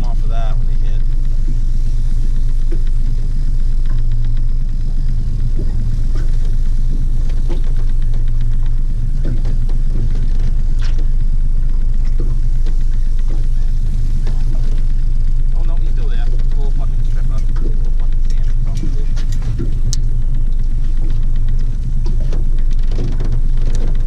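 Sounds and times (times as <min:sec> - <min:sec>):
outboard motor humming: 0:00.0 - 0:24.0.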